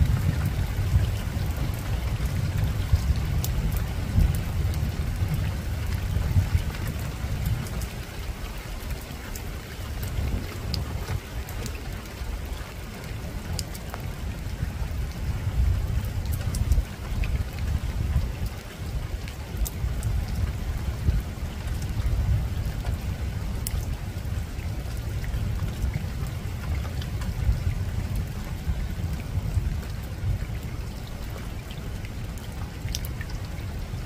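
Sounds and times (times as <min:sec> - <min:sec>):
rain on a rooftop: 0:00.0 - 0:34.0
raindrops ticking: 0:00.0 - 0:34.0.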